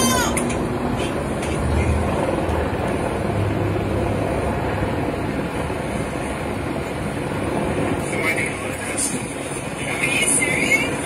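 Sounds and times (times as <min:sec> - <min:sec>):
strong wind rushing: 0:00.0 - 0:11.0.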